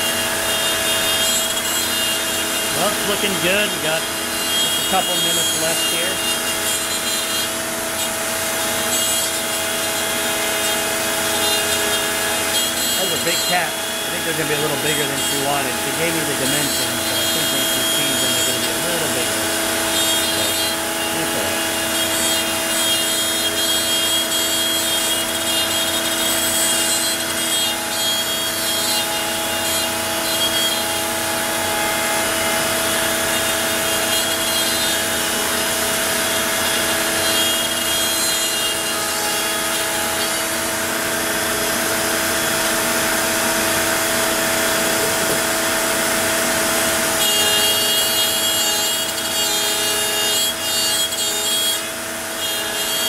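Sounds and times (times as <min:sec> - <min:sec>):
router spindle motor whine: 0:00.0 - 0:53.0.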